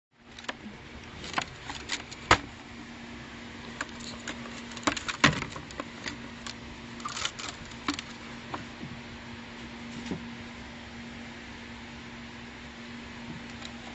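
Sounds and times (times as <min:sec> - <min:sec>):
steady low hum: 0:00.1 - 0:13.9.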